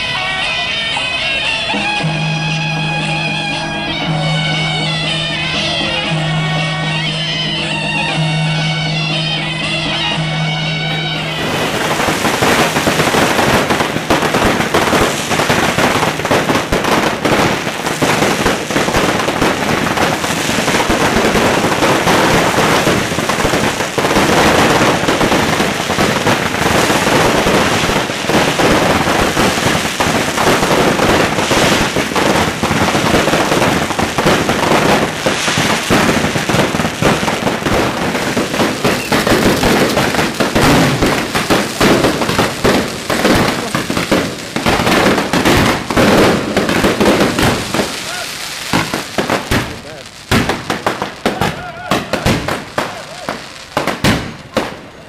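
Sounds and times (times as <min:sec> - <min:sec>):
fireworks crackling bangs: 0:00.0 - 0:55.0.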